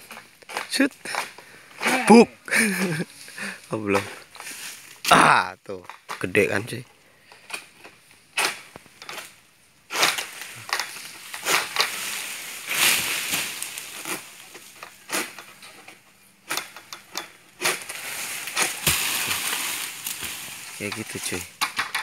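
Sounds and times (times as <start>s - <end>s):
sickle crunching fronds: 0.0s - 6.8s, 7.9s - 21.6s
dry rustling of fronds: 0.0s - 22.0s.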